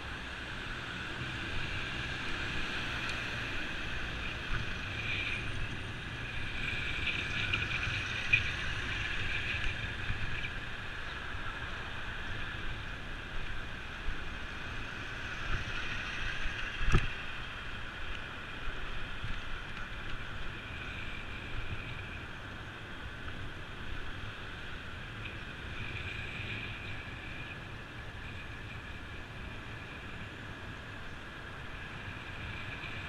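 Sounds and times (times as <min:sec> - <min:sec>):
traffic: 0:00.0 - 0:33.0
wind and road noise from bicycle: 0:00.0 - 0:33.0.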